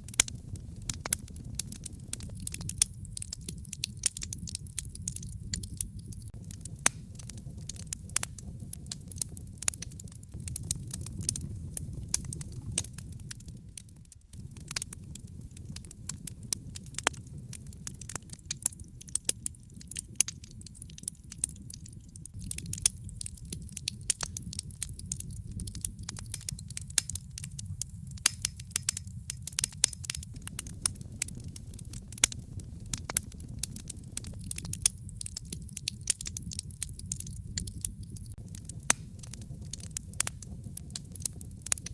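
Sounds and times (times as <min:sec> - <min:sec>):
low steady rumble: 0:00.0 - 0:09.4, 0:10.2 - 0:18.2, 0:22.3 - 0:41.9
wood fire crackling: 0:00.0 - 0:41.9.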